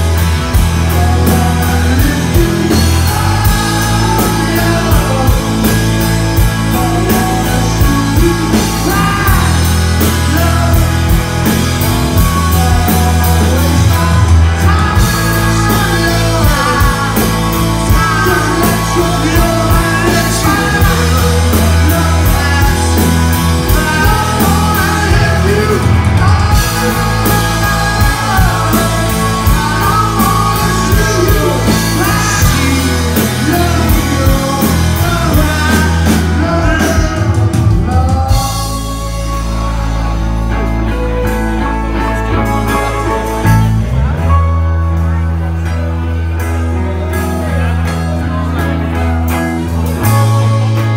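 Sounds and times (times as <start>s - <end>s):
person singing: 0.0s - 50.9s
rock band playing live: 0.0s - 50.9s.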